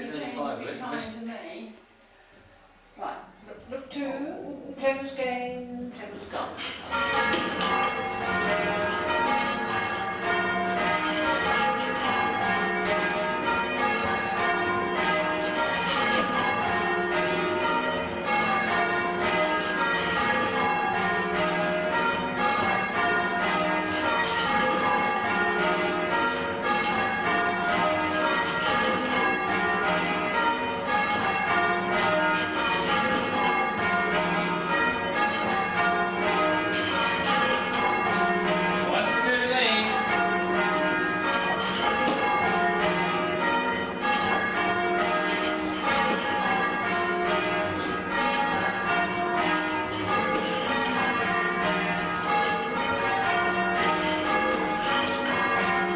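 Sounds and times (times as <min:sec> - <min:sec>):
church bells change ringing: 0:06.6 - 0:55.9.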